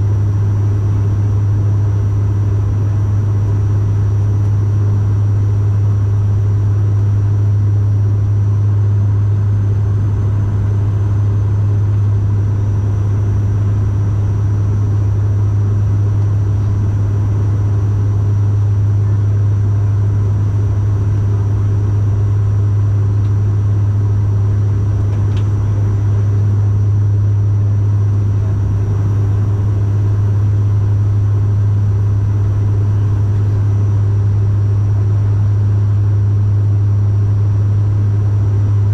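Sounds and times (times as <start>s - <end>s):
propeller plane cabin drone: 0.0s - 38.9s.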